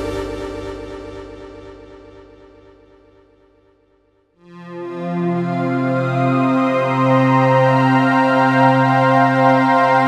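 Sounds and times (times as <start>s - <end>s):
synthesizer chord: 0.0s - 3.6s, 4.4s - 10.0s.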